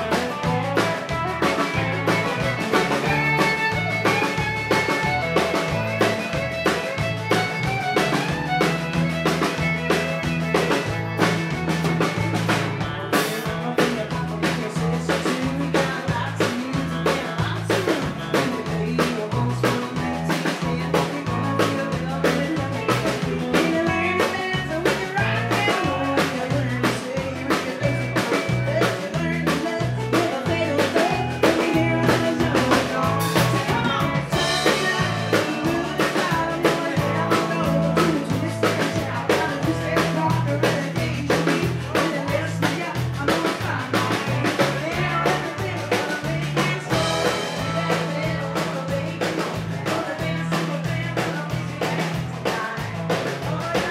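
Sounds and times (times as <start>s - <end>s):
drum kit beat: 0.0s - 53.9s
fiddle: 0.0s - 53.9s
live country band playing: 0.0s - 53.9s.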